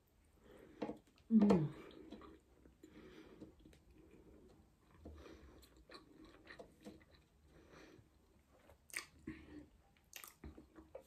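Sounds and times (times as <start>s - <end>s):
faint chewing: 0.6s - 11.0s.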